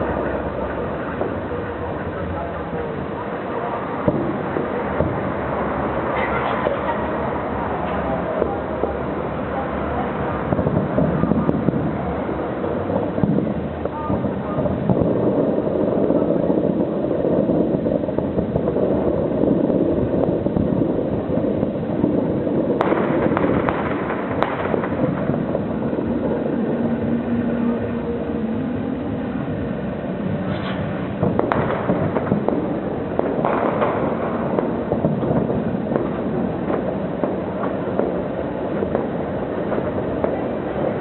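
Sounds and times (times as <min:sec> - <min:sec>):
fireworks bursts rumbling: 0:00.0 - 0:41.0
sharp firework cracks: 0:00.0 - 0:41.0.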